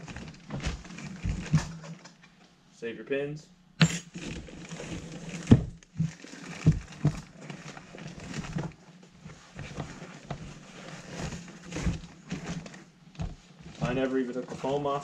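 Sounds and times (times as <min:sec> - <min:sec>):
fabric and foam rustling: 0:00.0 - 0:02.0, 0:04.2 - 0:15.0.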